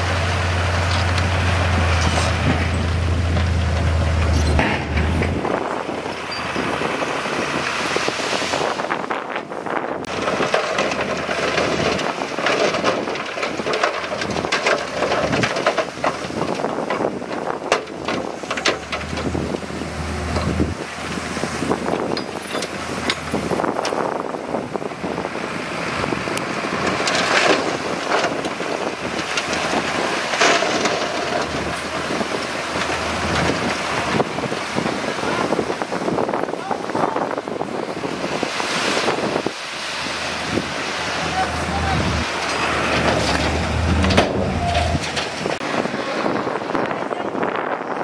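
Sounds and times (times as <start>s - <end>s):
bulldozer diesel engine under load: 0.0s - 48.0s
rock crunching under steel tracks: 0.0s - 48.0s
wind buffeting microphone: 1.4s - 48.0s.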